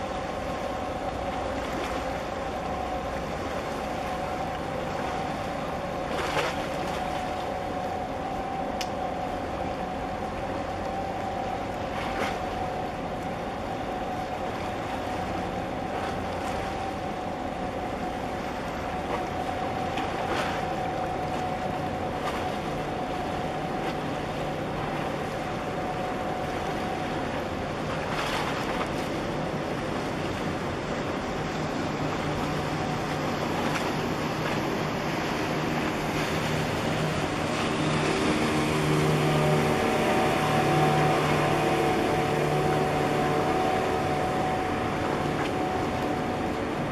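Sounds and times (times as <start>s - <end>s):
motorboat engine: 0.0s - 46.9s
ship engine hum: 0.0s - 46.9s
water washing against breakwater: 0.0s - 46.9s.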